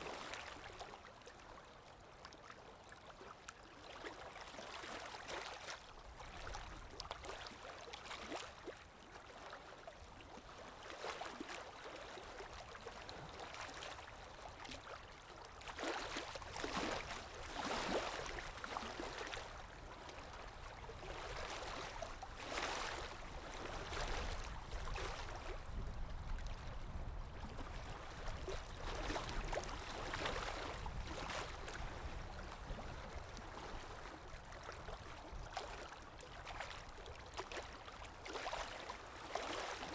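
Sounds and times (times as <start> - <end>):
gurgling flowing water: 0.0 - 39.9.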